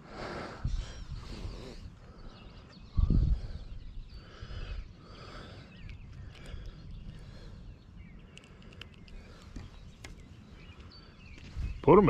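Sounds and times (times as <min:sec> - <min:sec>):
wind rumbling on microphone: 0:00.0 - 0:12.0
faint bird chirps: 0:00.6 - 0:12.0.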